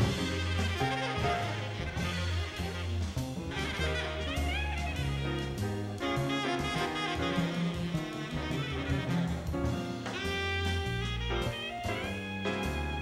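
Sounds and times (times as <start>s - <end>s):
drums: 0.0s - 13.0s
tenor saxophone soloing: 0.0s - 13.0s
upright bass: 0.0s - 13.0s.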